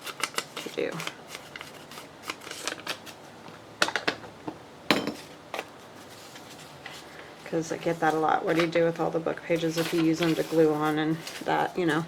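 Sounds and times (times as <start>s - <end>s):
paper rustling: 0.0s - 3.3s, 5.6s - 12.0s.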